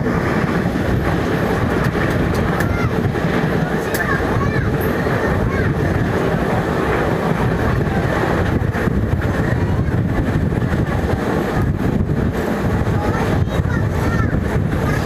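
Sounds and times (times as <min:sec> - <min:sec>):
heavy machinery engine rumble: 0:00.0 - 0:15.0
wind buffeting microphone: 0:00.0 - 0:15.0.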